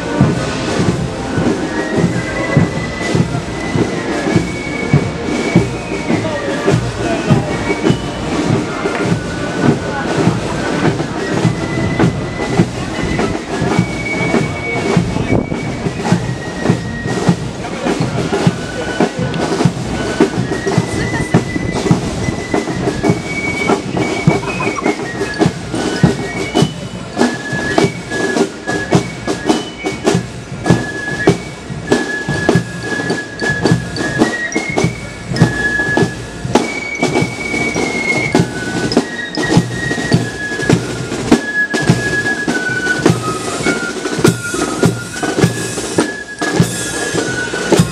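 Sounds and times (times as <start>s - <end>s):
flutes playing melody: 0.0s - 47.9s
snare drums beat: 0.0s - 47.9s.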